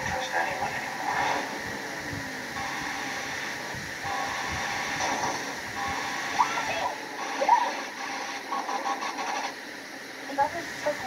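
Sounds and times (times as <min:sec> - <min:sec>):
movie trailer soundtrack from television: 0:00.0 - 0:11.0.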